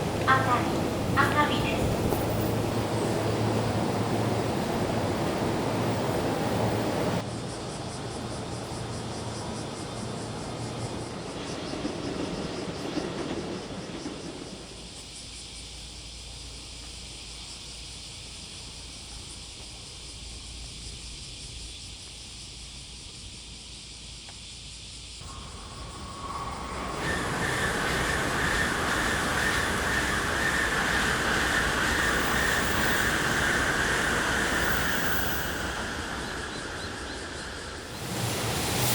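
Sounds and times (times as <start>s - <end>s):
train hiss and rumble: 0.0s - 38.9s.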